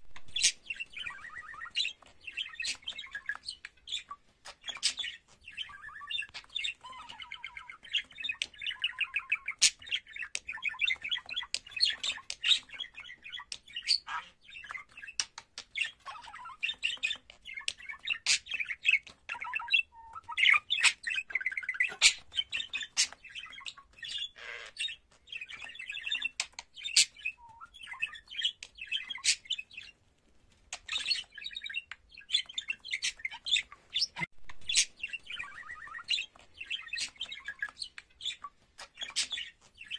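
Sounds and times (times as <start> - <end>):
budgerigar warbling and chirping: 0.2 - 30.0, 30.7 - 39.9.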